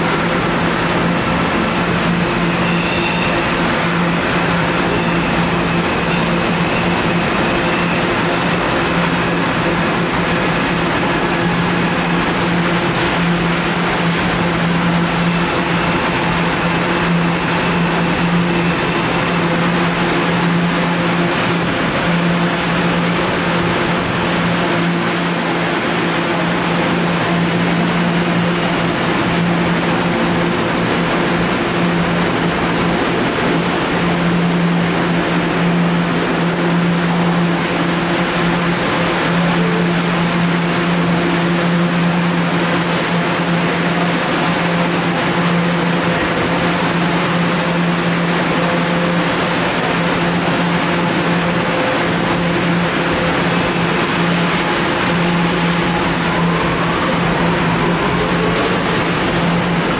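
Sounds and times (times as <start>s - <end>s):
station noise: 0.0s - 59.9s
subway car electrical hum: 0.0s - 59.9s.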